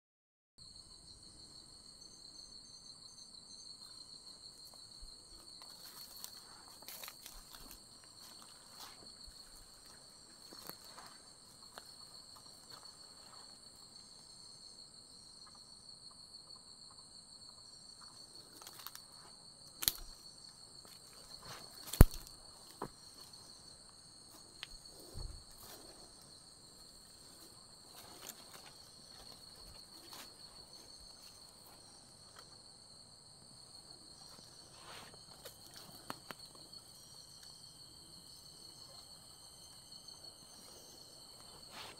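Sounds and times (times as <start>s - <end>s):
insects trilling: 1.1s - 41.9s.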